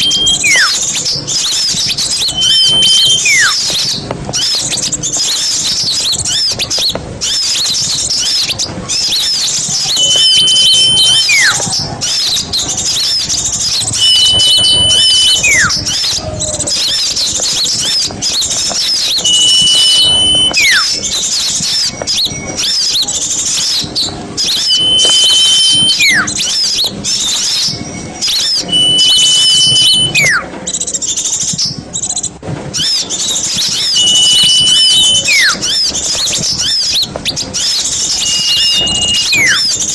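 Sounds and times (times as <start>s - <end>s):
falling whistle: 0.0s - 6.6s, 9.1s - 30.6s, 32.8s - 39.9s
small birds chirping and twittering: 0.0s - 39.9s.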